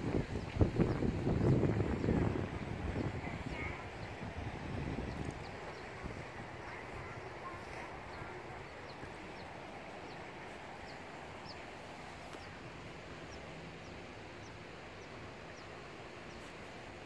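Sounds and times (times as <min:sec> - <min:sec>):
outdoor background hush: 0:00.0 - 0:17.0
small bird chirping: 0:02.9 - 0:16.7.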